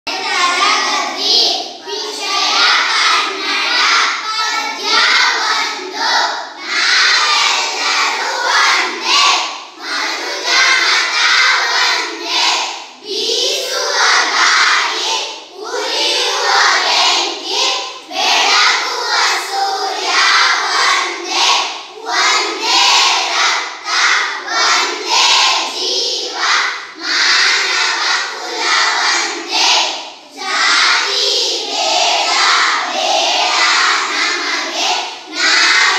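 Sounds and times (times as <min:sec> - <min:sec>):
young children singing in unison: 0:00.1 - 0:35.9.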